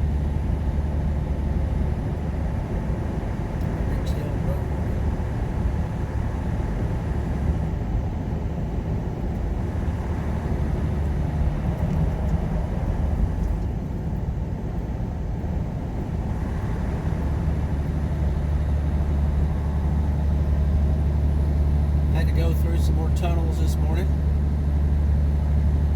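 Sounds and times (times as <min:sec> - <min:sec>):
diesel truck engine running: 0:00.0 - 0:25.9
road and tyre noise: 0:00.0 - 0:25.9.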